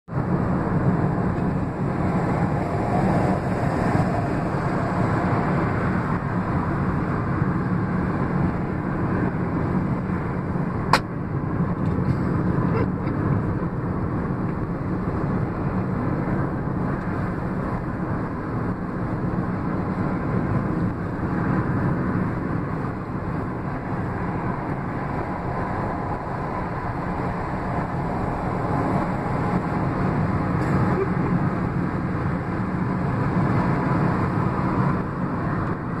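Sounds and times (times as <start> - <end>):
road and wind noise in car: 0.0 - 36.0.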